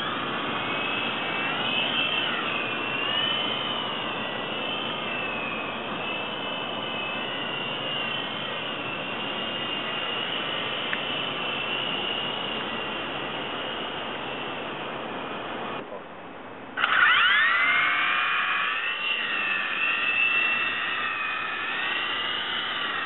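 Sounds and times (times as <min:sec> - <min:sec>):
rotors whirring: 0:00.0 - 0:15.8, 0:16.8 - 0:23.0
helicopter motors whining: 0:00.0 - 0:16.0, 0:16.7 - 0:23.0.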